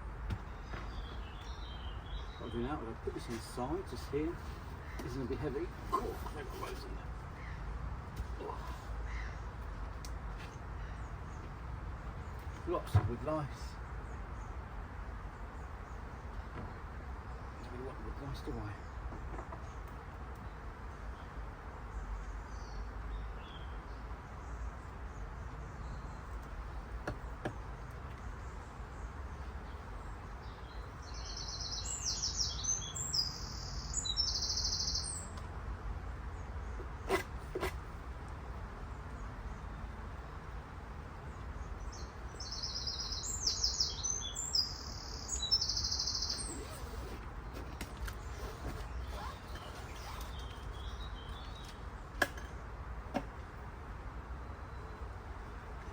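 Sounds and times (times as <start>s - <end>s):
songbird chirping: 0.0s - 52.7s.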